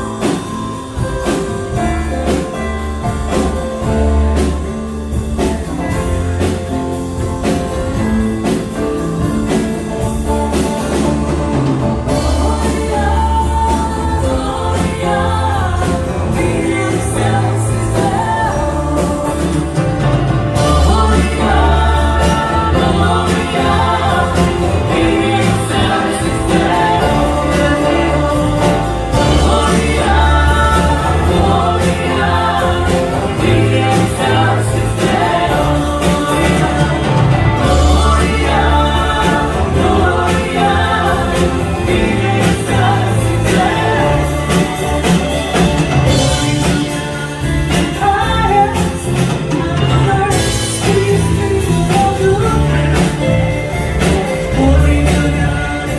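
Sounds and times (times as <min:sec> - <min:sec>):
steady beat: 0:00.0 - 0:48.0
bass: 0:00.0 - 0:55.9
group singing a hymn: 0:00.0 - 0:55.9
guitar: 0:00.0 - 0:55.9.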